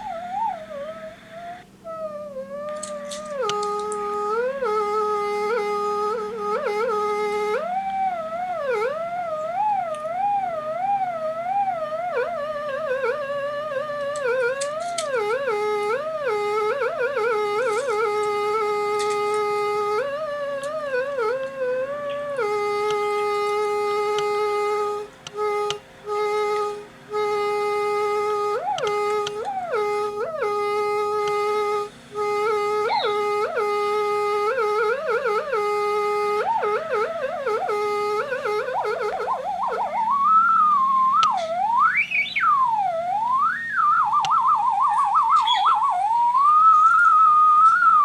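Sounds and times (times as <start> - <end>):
wavering sliding melody line: 0.0 - 48.0.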